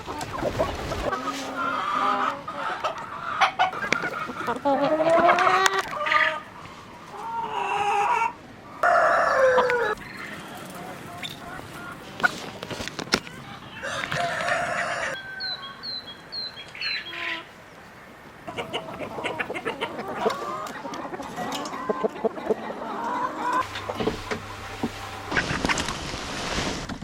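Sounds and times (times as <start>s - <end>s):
chickens clucking and calling: 0.0s - 27.0s.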